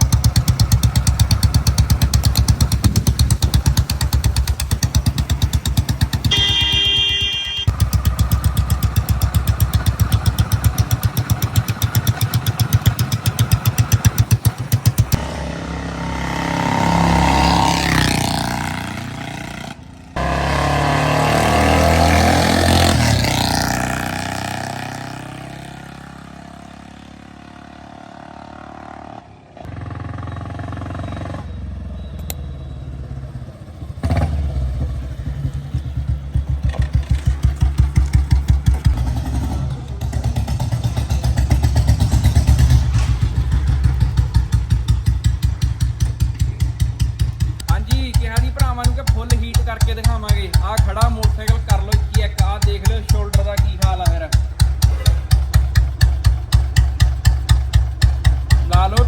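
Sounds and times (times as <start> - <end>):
motorcycle engine thumping and revving: 0.0 - 32.4, 33.1 - 59.0.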